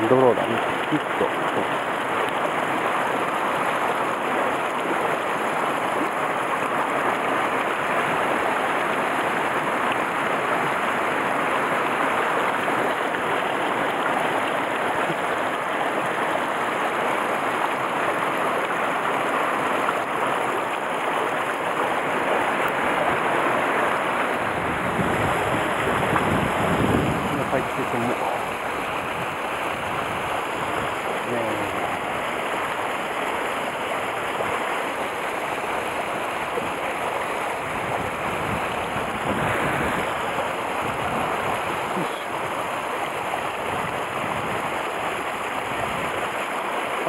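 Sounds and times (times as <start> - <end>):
stream rushing over rocks: 0.0 - 47.0.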